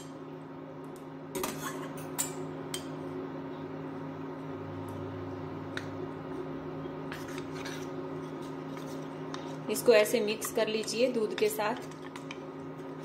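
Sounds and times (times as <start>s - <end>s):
induction cooktop hum: 0.0s - 13.0s.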